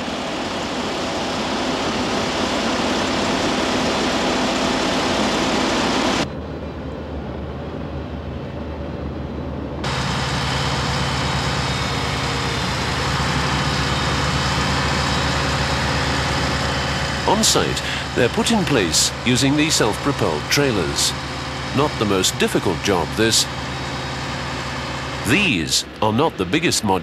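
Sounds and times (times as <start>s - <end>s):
heavy diesel engines running: 0.0s - 27.0s
low engine throb: 0.0s - 27.0s.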